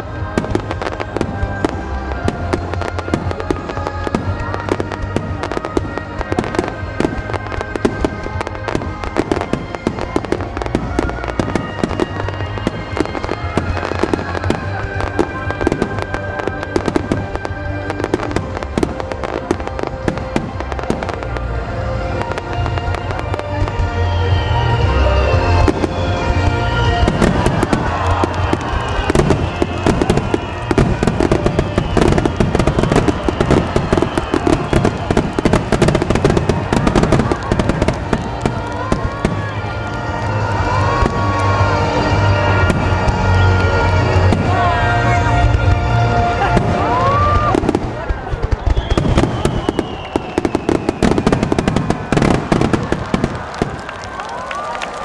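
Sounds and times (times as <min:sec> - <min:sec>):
music with sustained tones: 0:00.0 - 0:48.3
fireworks bursting and crackling: 0:00.0 - 0:55.0.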